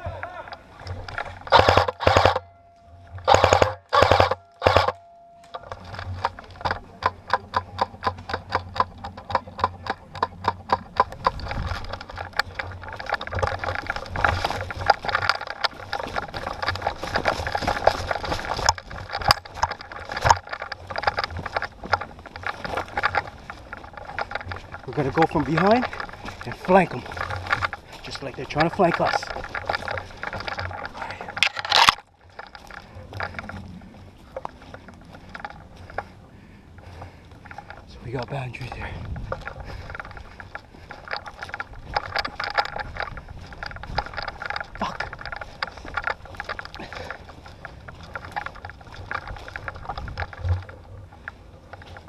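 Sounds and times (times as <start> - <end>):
footsteps crunching through dry leaves: 10.1 - 52.0.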